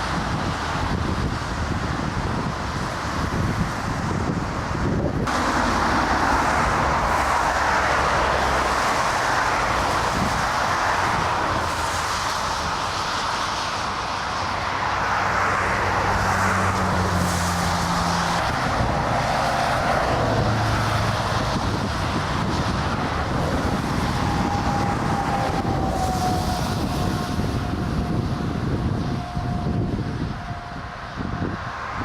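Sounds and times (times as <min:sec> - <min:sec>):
jet engines rushing: 0:00.0 - 0:32.0.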